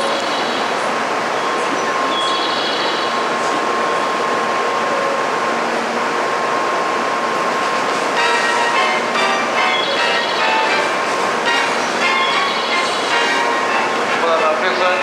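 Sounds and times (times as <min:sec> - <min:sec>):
train humming with whine: 0:00.0 - 0:15.0.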